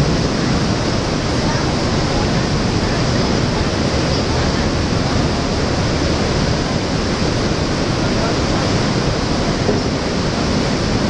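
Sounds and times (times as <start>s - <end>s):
water rushing through lock gate: 0.0s - 11.0s.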